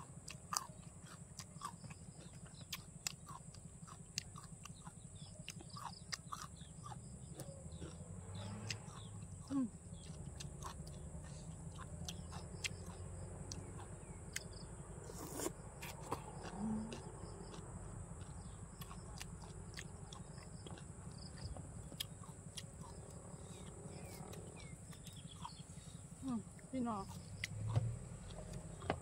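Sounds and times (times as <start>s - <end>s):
person chewing: 0.0s - 29.0s.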